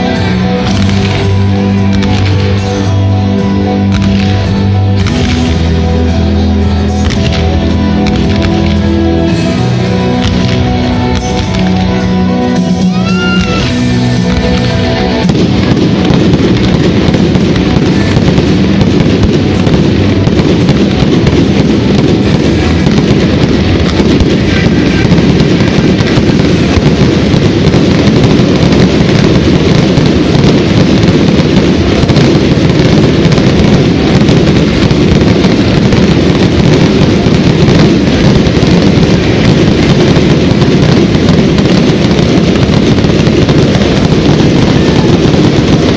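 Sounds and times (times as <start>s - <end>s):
fireworks bursts and crackle: 0.0s - 45.9s
music: 0.0s - 45.9s.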